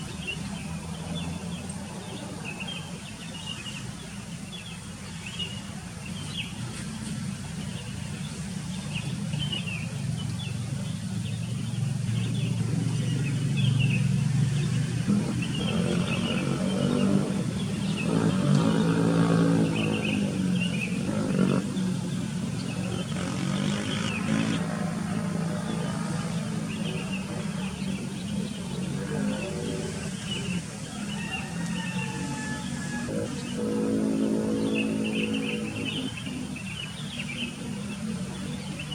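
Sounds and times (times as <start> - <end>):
small birds chirping: 0.0 - 38.9
low engine drone: 3.8 - 38.9.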